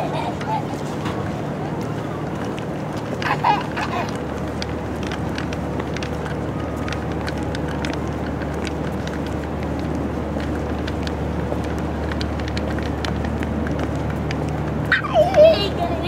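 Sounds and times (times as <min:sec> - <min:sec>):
city background hum: 0:00.0 - 0:16.0
footsteps on paving stones: 0:00.0 - 0:16.0.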